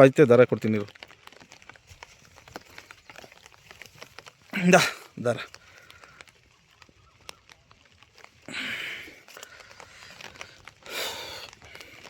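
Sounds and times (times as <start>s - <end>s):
raindrops tapping on umbrella: 0.0s - 12.0s
short rustling bursts: 0.6s - 12.0s.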